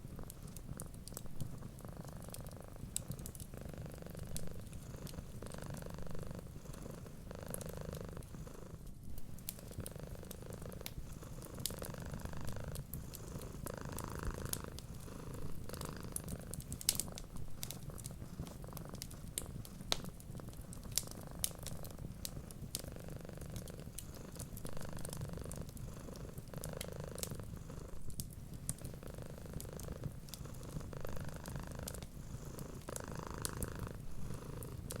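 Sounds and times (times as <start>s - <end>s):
wood fire crackling: 0.0s - 7.6s, 9.1s - 35.0s
cat purring: 0.0s - 35.0s.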